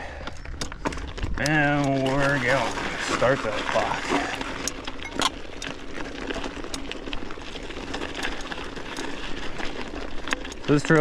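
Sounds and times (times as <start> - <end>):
bike and stones rattling: 0.0 - 11.0
bike tyres crunching on gravel: 0.0 - 11.0.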